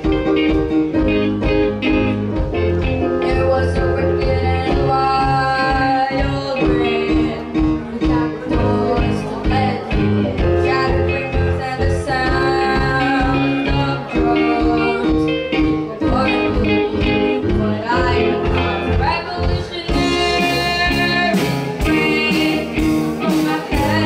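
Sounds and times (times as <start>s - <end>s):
rock band playing live: 0.0s - 24.0s
person singing: 2.6s - 24.0s.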